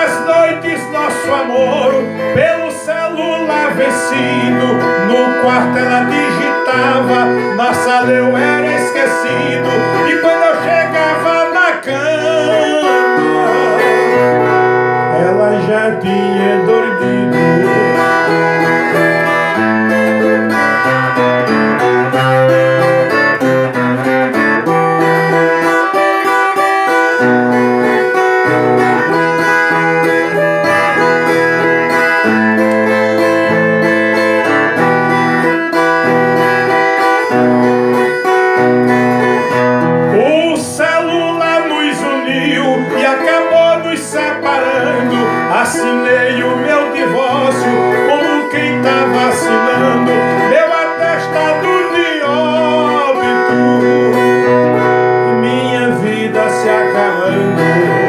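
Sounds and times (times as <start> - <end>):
man singing: 0.0 - 58.0
strummed acoustic string instrument: 0.0 - 58.0.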